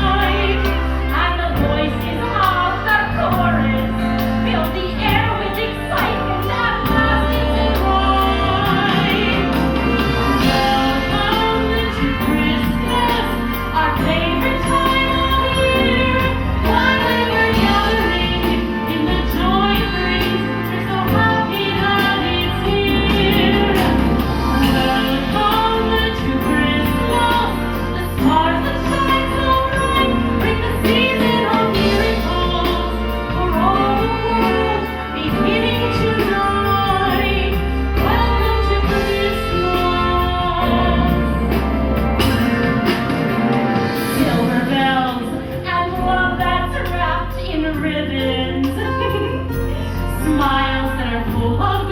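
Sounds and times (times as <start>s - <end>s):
bass line: 0.0s - 51.9s
pop song over sound system: 0.0s - 51.9s
woman singing lead vocal: 0.0s - 51.9s.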